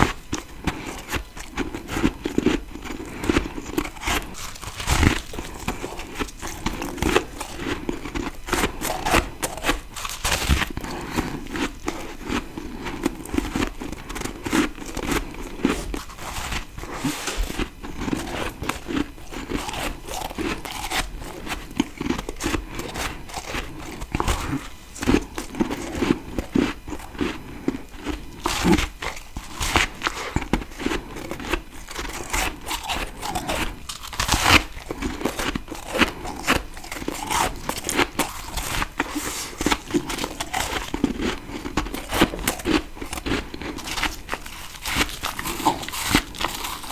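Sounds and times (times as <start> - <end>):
frost crunching being chewed: 0.0 - 46.9.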